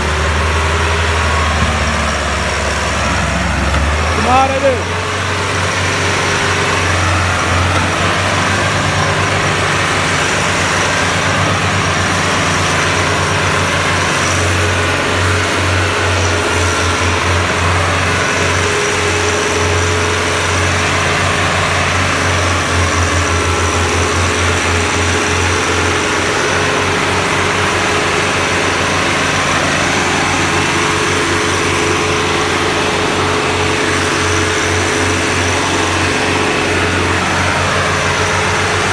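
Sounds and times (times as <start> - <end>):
steady whine: 0.0 - 38.9
tractor engine running: 0.0 - 38.9.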